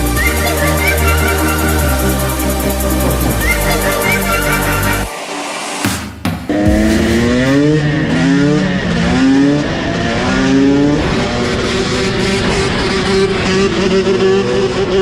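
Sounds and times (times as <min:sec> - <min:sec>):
two-stroke engine accelerating: 0:00.0 - 0:05.1, 0:06.5 - 0:15.0.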